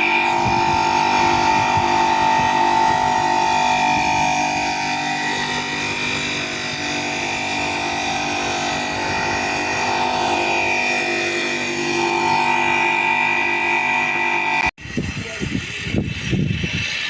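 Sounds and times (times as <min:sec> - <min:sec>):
engine running with whine: 0:00.0 - 0:17.0.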